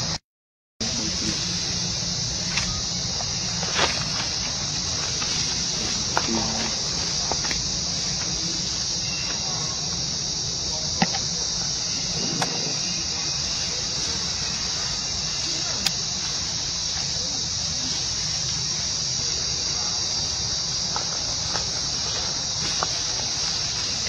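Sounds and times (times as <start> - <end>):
high-pitched insect chorus: 0.8 - 24.0.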